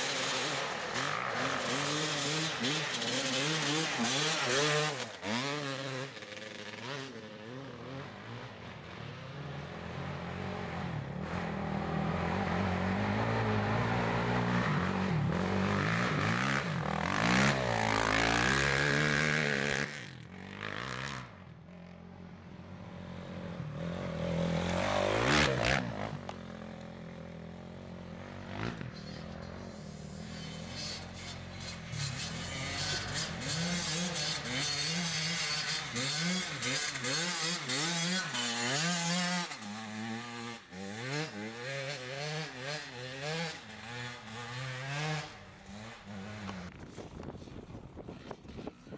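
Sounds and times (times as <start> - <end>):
motorcycle engines revving: 0.0 - 48.9
quad bike engine: 0.0 - 48.9.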